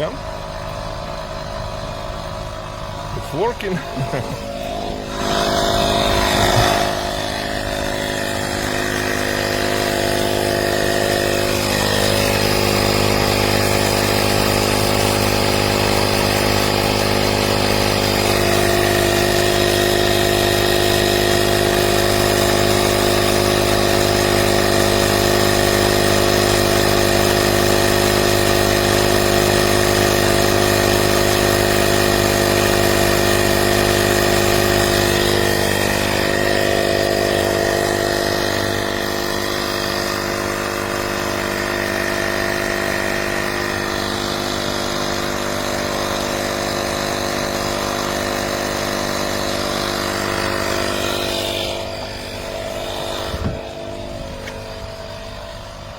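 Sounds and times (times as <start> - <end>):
electric tire inflator running: 0.0 - 55.9.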